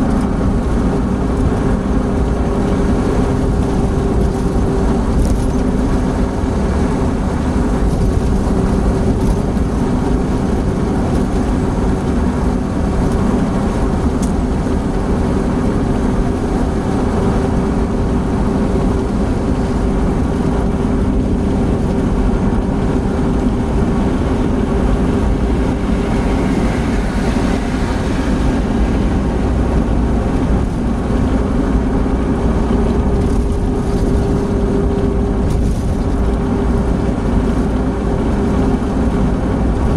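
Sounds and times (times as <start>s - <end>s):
car cabin road drone: 0.0s - 39.9s.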